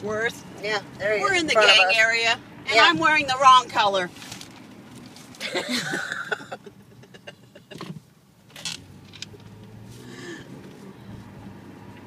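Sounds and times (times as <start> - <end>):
car cabin road and engine hum: 0.0 - 12.0.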